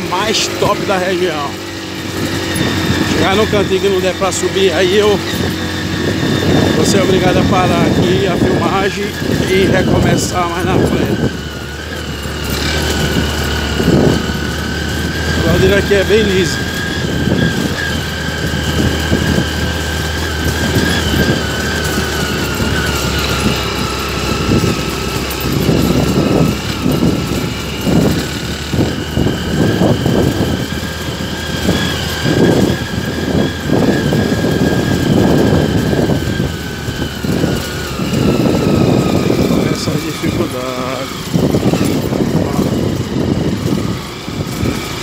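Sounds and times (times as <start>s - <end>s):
steady whine: 0.0s - 45.0s
uneven low rumbles: 0.0s - 45.0s
vehicle engine running: 0.0s - 45.0s.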